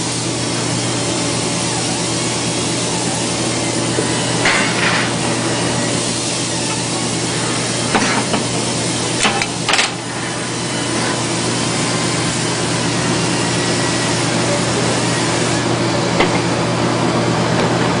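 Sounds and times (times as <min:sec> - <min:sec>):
welding arc hissing: 0:00.0 - 0:17.0.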